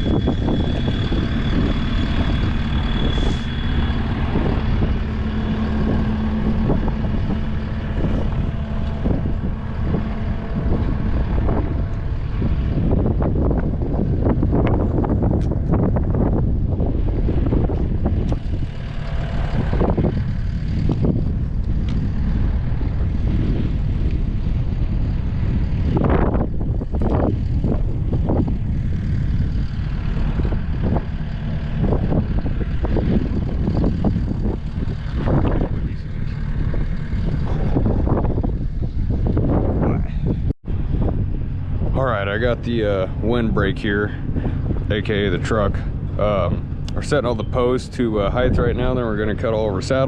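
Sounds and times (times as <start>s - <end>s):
gusty wind buffeting microphone: 0.0s - 50.0s.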